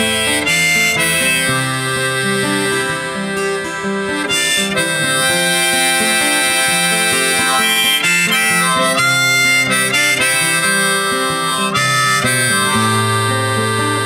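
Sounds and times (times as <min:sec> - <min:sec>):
acoustic guitar: 0:00.0 - 0:14.0
harmonica melody: 0:00.0 - 0:14.0.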